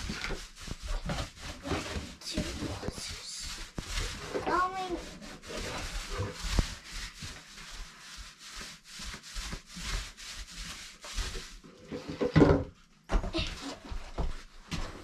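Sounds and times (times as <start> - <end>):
paint brush scrubbing wood: 0.0 - 12.3.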